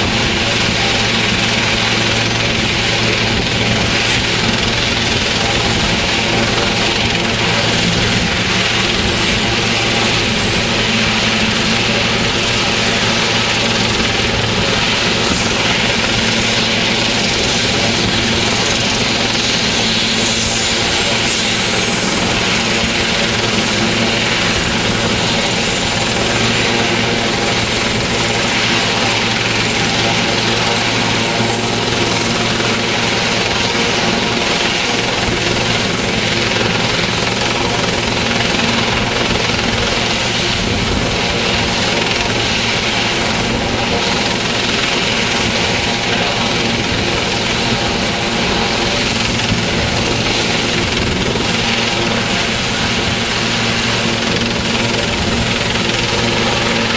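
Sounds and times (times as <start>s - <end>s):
helicopter rotor and engine noise: 0.0s - 56.9s
high turbine whine: 0.0s - 56.9s.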